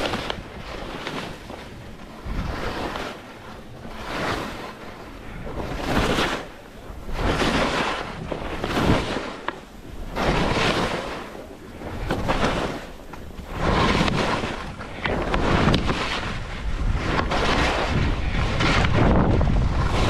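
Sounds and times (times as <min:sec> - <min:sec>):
skis scraping across snow: 0:00.0 - 0:20.0
wind rumble on microphone: 0:00.0 - 0:20.0.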